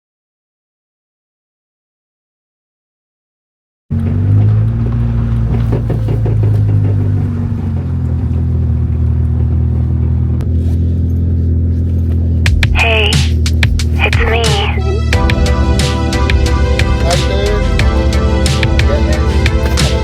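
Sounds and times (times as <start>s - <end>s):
car engine running: 3.9s - 20.0s.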